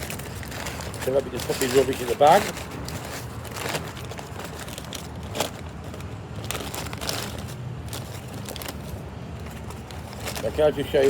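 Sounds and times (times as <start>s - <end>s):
paper and wrappers crumpling: 0.0s - 11.0s.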